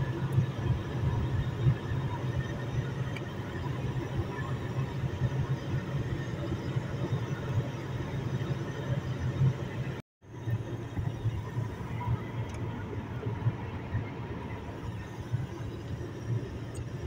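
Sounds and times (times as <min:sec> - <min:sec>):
car cabin road and engine drone: 0:00.0 - 0:17.0.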